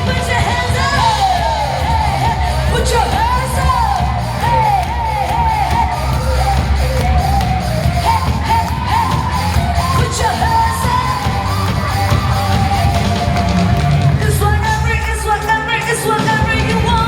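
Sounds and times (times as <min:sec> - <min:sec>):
live band playing: 0:00.0 - 0:17.0
singer holding long notes: 0:00.0 - 0:17.0.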